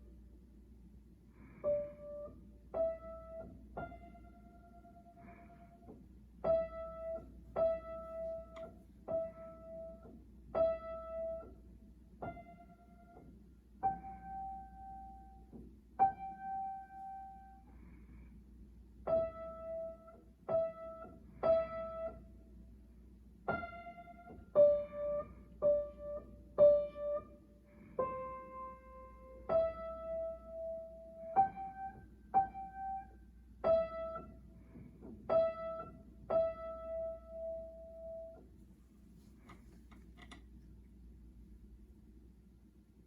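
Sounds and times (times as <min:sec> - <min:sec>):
slow piano melody: 0:01.3 - 0:18.0, 0:18.9 - 0:38.6.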